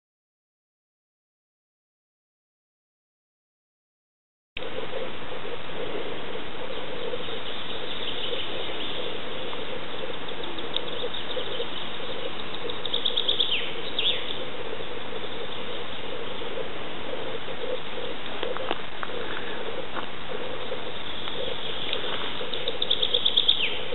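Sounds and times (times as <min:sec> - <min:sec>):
birds chirping: 0:04.6 - 0:23.9
steady hiss: 0:04.6 - 0:23.9.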